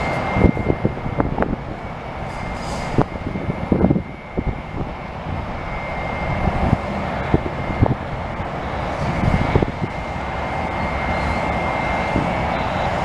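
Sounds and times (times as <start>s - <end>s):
bulldozer diesel engine running: 0.0s - 13.0s
steel tracks clanking: 0.0s - 13.0s.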